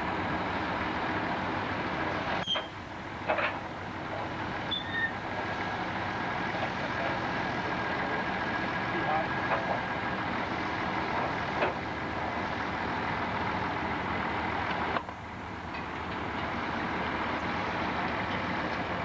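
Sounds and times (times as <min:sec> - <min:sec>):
sawmill machinery humming: 0:03.8 - 0:19.0.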